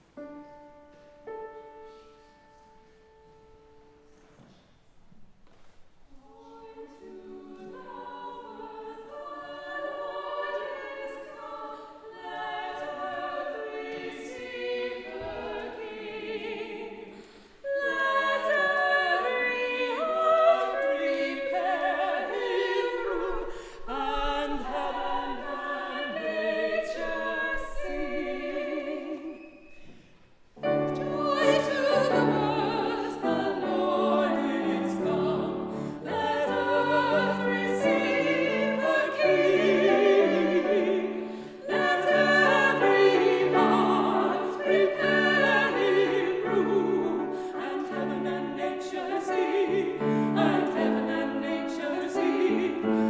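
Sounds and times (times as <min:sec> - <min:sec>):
women singing a carol: 0:06.1 - 0:29.9, 0:30.6 - 0:53.0.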